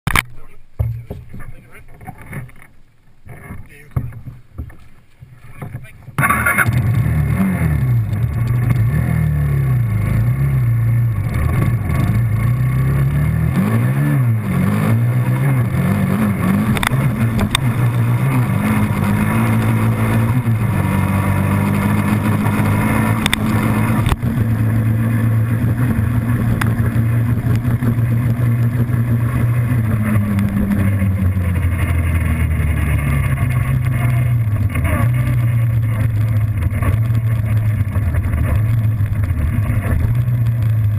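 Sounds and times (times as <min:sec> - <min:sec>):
quad bike engine accelerating: 0:06.2 - 0:40.9.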